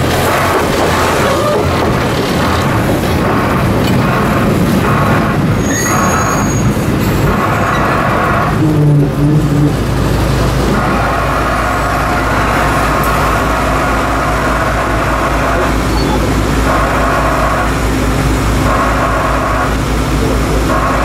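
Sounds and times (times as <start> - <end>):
train rolling rumble: 0.0 - 21.0
low tone: 2.6 - 21.0.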